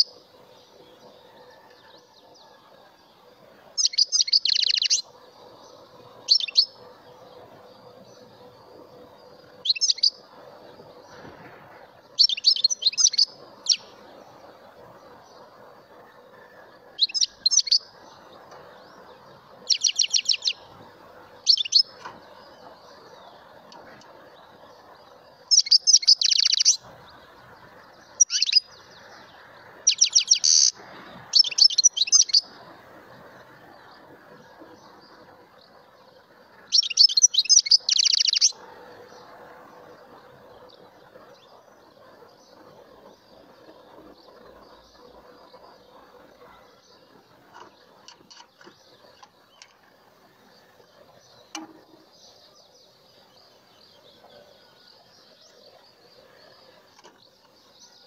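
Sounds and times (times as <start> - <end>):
goldfinch singing: 3.6 - 58.0.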